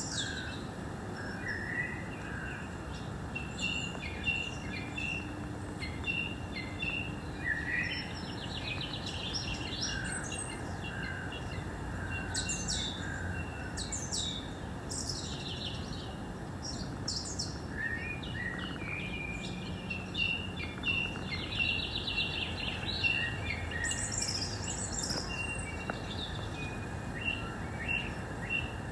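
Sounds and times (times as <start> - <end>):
birds singing and calling: 0.0 - 28.9.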